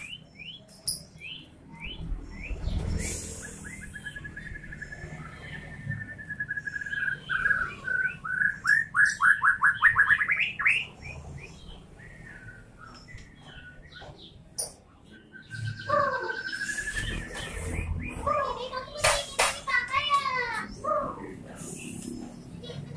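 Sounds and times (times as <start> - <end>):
bird singing trills and whistles: 0.0 - 18.9.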